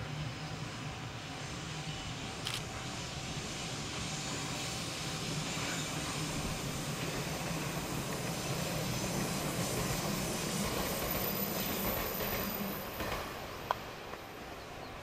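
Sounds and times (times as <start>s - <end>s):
train wheels and motors running: 0.1s - 15.0s.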